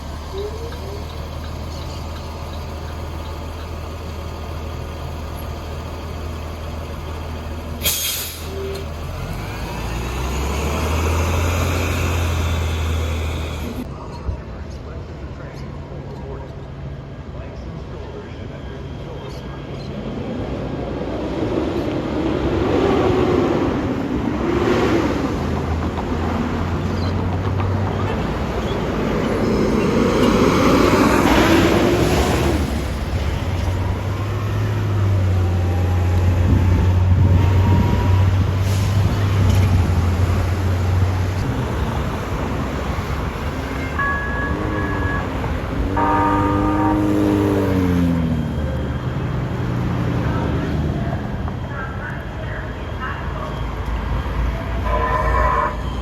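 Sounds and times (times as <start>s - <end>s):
train low hum: 0.0s - 56.0s.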